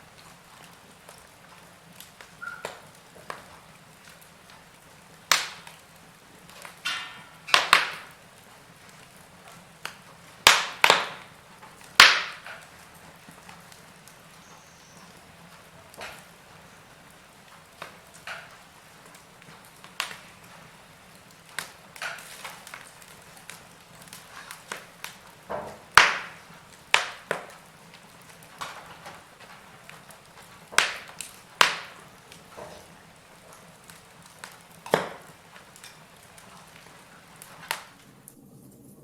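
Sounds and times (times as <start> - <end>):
faint steady hiss: 0.0 - 39.0
wood fire crackling and popping: 0.0 - 39.0.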